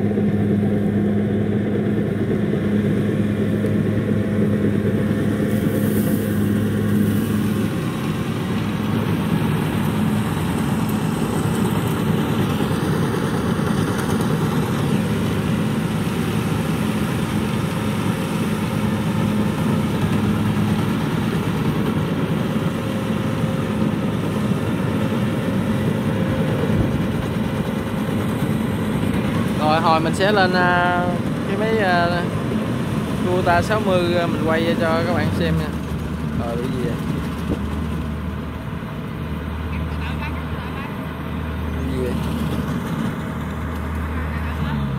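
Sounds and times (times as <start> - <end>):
diesel engine drone: 0.0 - 44.9.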